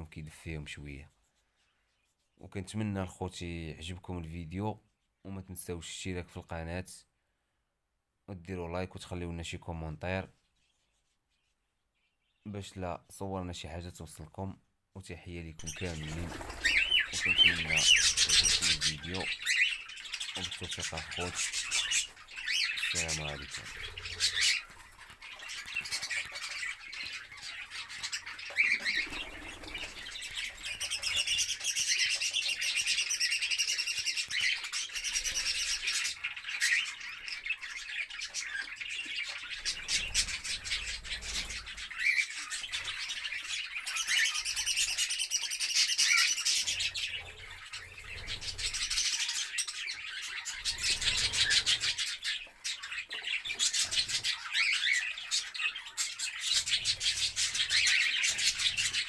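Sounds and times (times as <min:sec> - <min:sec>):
birds chirping and twittering: 0:00.0 - 0:07.8, 0:08.4 - 0:59.0.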